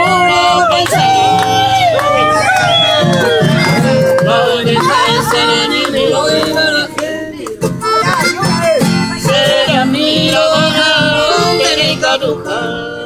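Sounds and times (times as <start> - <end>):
accordion melody: 0.0 - 13.0
strummed acoustic guitars: 0.0 - 13.0.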